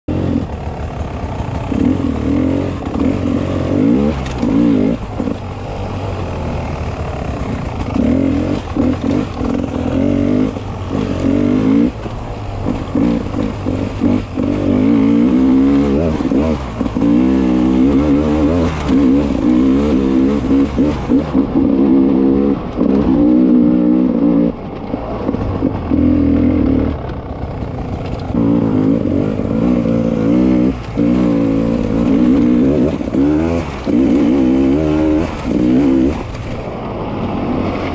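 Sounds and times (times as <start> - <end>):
motorcycle engine revving: 0.1 - 37.9.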